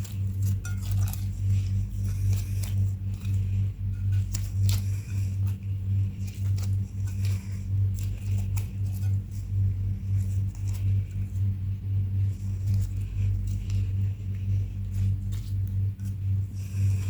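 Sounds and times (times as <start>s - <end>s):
pulsing low hum: 0.0s - 17.0s
slime squishing: 0.0s - 17.0s.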